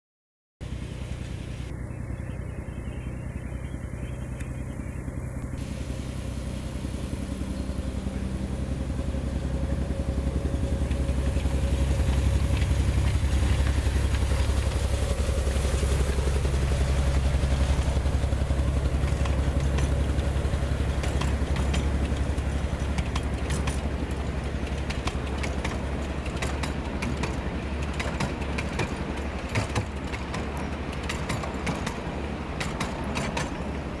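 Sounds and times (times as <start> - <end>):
locomotive engine droning: 0.6 - 34.0
wheels clattering over track: 4.3 - 34.0.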